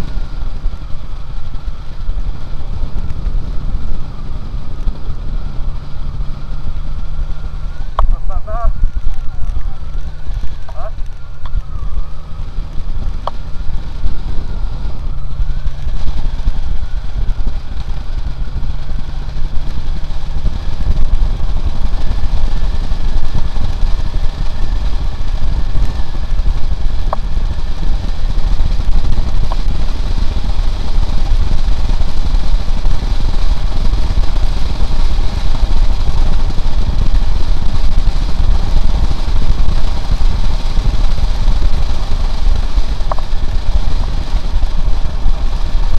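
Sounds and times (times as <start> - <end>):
motorcycle engine running: 0.0 - 45.9
wind rumble: 0.0 - 45.9.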